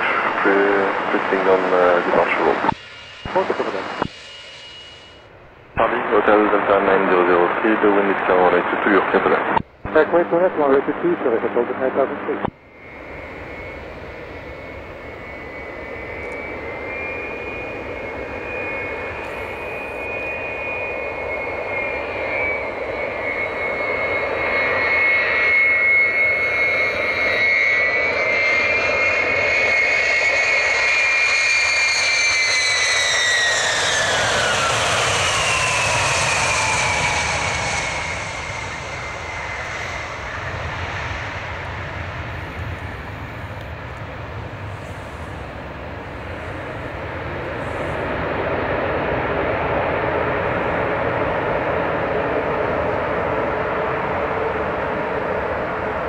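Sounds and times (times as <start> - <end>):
jet engine whine: 0.0 - 56.0
jet touching down rumble: 0.0 - 56.0.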